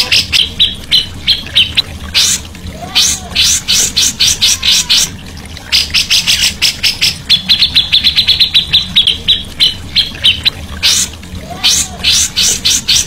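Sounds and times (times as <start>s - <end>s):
songbird chattering: 0.0s - 2.4s, 3.0s - 13.0s.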